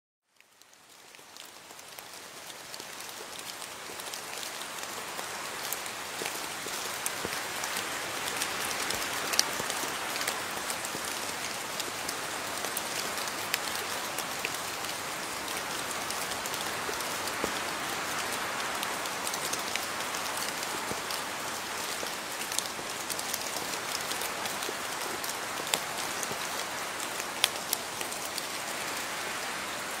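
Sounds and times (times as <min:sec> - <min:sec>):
steady rain hiss: 0:00.3 - 0:30.0.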